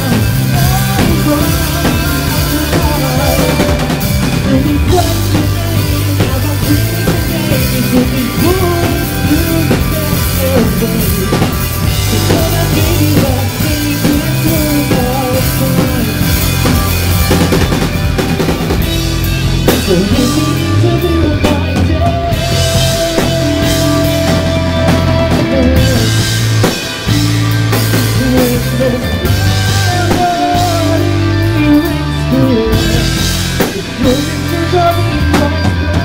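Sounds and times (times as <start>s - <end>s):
man singing lead: 0.0s - 36.0s
rock band playing live: 0.0s - 36.0s.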